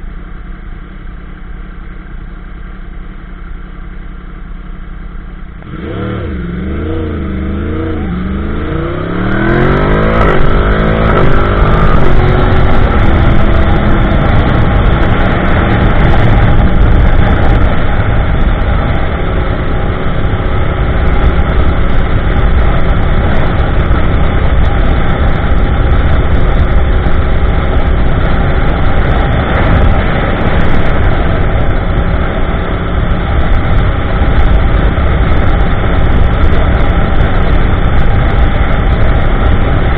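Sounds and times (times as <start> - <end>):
motorcycle engine accelerating: 3.8 - 39.9
wind rushing: 5.7 - 39.9.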